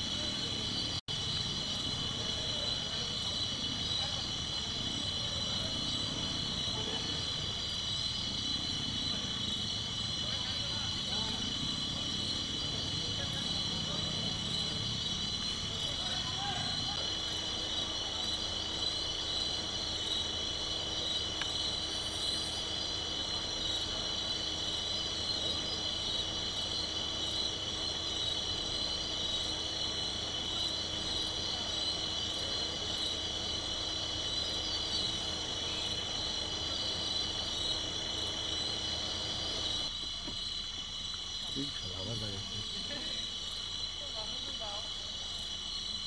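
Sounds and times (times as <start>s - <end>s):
night insects chorus: 0.0s - 46.0s.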